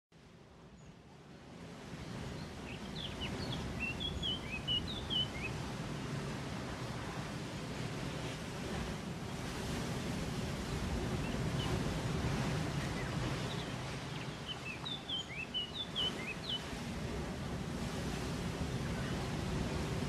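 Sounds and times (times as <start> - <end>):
rushing water: 0.4 - 20.0.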